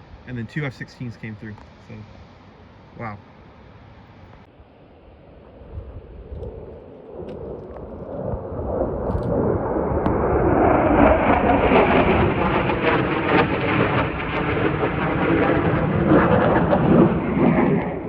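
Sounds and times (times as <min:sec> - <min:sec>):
fighter jet engine noise: 0:00.0 - 0:18.0.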